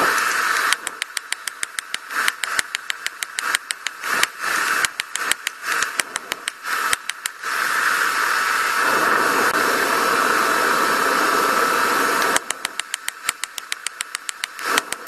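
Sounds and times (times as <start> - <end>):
forge rushing hiss: 0.0 - 15.0.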